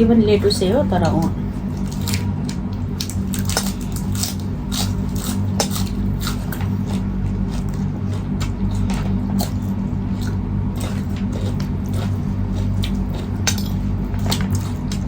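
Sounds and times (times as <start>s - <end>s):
steady low hum: 0.0s - 15.0s
chewing: 1.6s - 15.0s.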